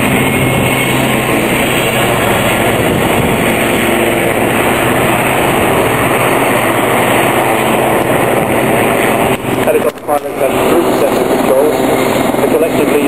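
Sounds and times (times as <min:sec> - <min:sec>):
helicopters flying low: 0:00.0 - 0:13.0.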